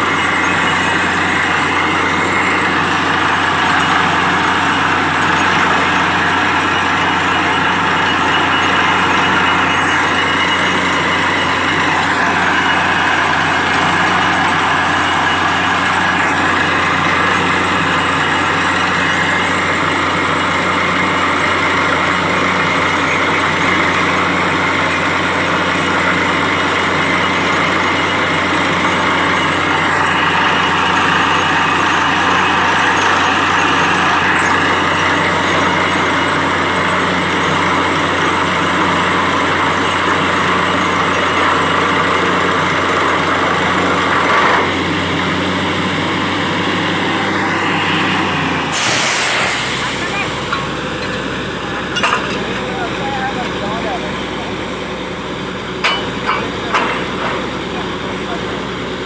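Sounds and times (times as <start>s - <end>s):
drilling rig running: 0.0s - 59.0s.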